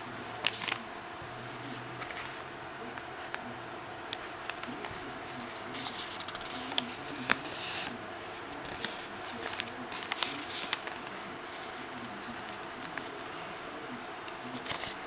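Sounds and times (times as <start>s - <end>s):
paper pages being turned: 0.0s - 0.9s, 1.6s - 2.4s, 4.4s - 15.0s.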